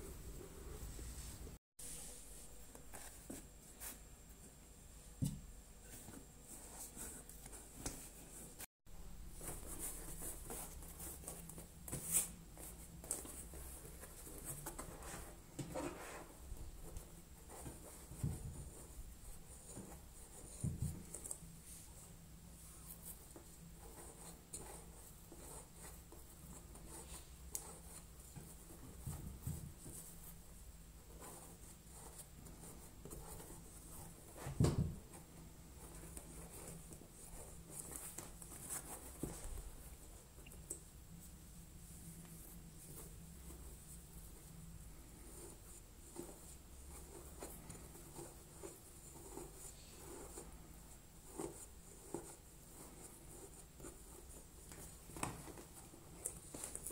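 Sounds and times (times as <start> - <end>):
rustling and scratching: 0.0 - 56.9.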